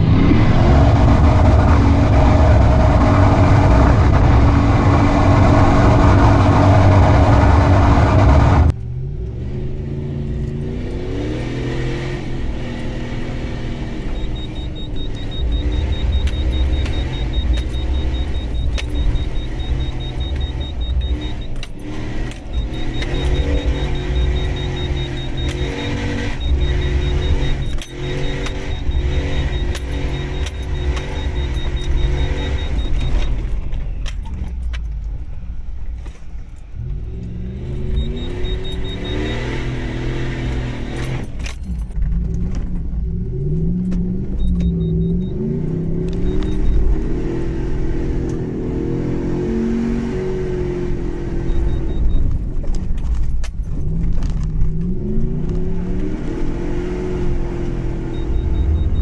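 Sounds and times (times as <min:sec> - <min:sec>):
engine revving hard: 0:00.0 - 0:33.2, 0:36.8 - 0:41.4, 0:43.0 - 0:52.0, 0:54.7 - 0:59.0.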